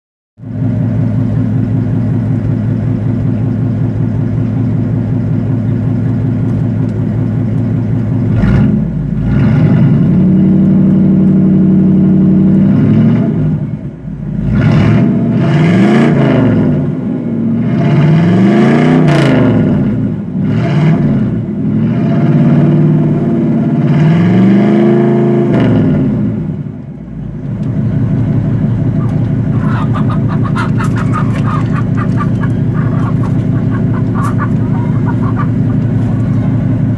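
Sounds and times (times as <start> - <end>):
car engine idling and revving: 0.4 - 36.9.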